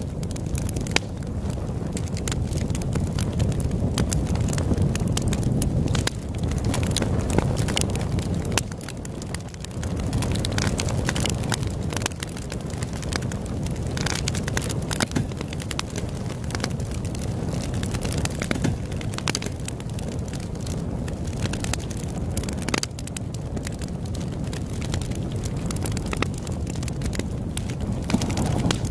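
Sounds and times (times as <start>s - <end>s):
campfire crackling: 0.0s - 28.9s
wood popping: 0.1s - 1.3s, 1.9s - 28.9s.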